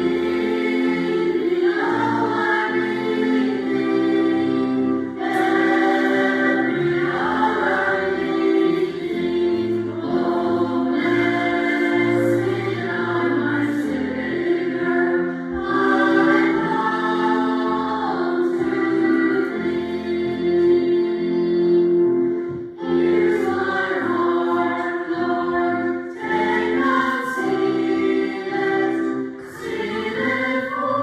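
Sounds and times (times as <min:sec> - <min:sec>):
choir singing: 0:00.0 - 0:31.0
steady held notes: 0:00.0 - 0:31.0.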